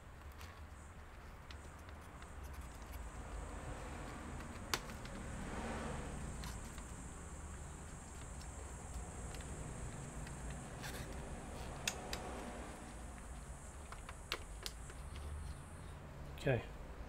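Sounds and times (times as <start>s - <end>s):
laptop handling ticks: 0.0s - 15.9s.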